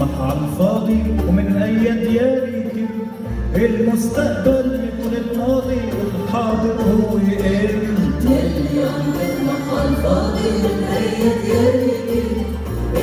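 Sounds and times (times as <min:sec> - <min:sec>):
low bass line: 0:00.0 - 0:13.0
oud and ensemble music: 0:00.0 - 0:13.0.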